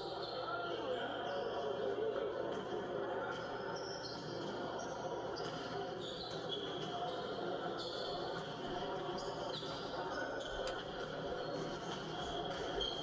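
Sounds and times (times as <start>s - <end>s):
echoing murmur of voices: 0.0s - 13.0s.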